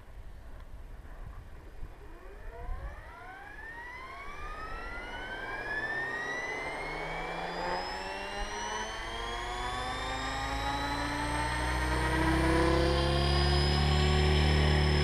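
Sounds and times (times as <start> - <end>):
model helicopter rotor whine: 1.6 - 15.0.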